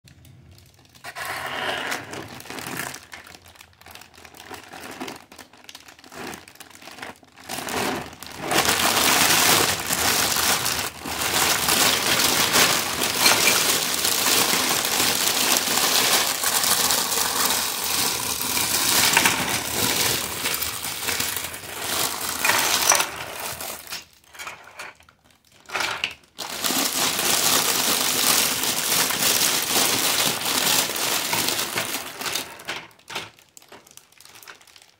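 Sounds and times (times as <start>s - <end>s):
plastic bag crinkling: 0.1s - 34.9s.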